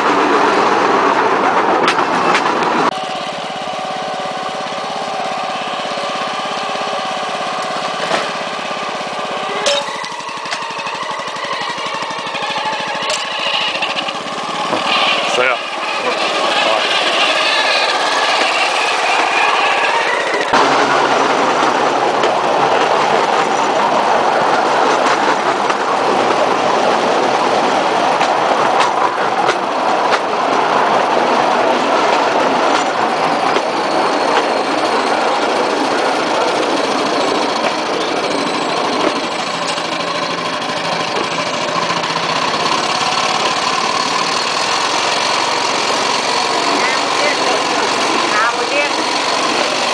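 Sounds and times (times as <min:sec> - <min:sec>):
rattling platform and wheels: 0:00.0 - 0:49.9
small engine drone: 0:02.9 - 0:49.9.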